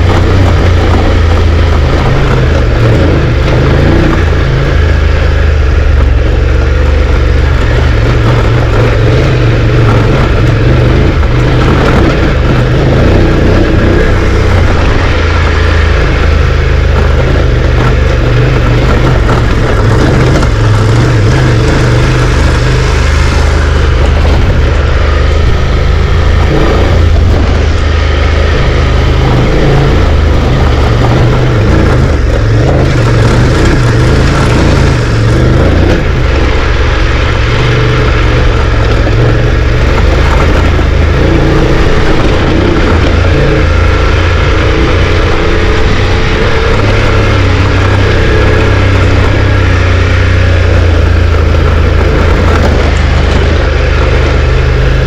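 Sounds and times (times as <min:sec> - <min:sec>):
car engine running: 0:00.0 - 0:55.0
loud road noise: 0:00.0 - 0:55.0.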